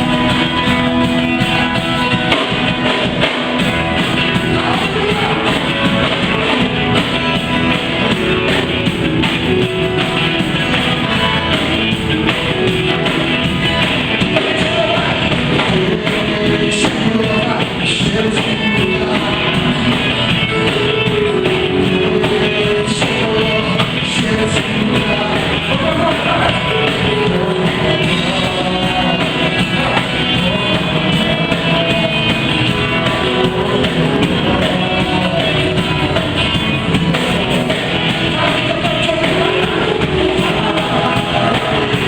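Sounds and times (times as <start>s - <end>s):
live band playing gospel rock: 0.0s - 42.0s
singing: 0.0s - 42.0s.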